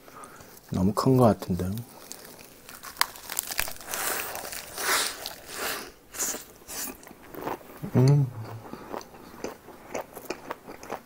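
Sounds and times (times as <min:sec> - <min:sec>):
crunching bites and chewing: 0:01.6 - 0:11.0.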